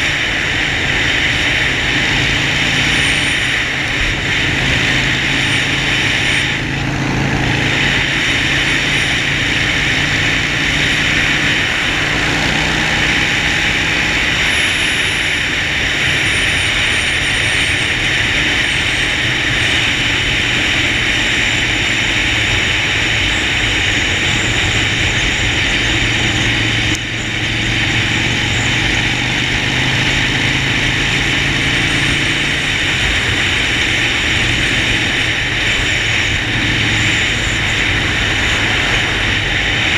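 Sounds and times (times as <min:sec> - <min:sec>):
motorcycle engine running: 0:00.0 - 0:39.9
wind and road noise hiss: 0:00.0 - 0:39.9.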